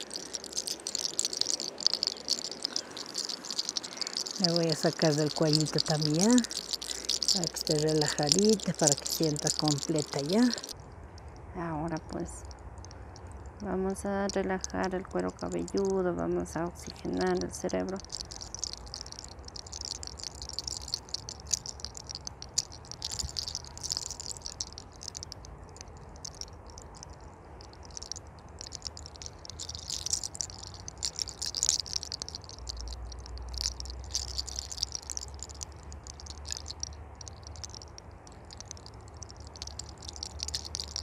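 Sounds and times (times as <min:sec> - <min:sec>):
fingers scratching through hair: 0:00.0 - 0:10.8, 0:17.1 - 0:41.0
small clicks: 0:00.0 - 0:13.6, 0:14.2 - 0:16.1, 0:16.8 - 0:41.0.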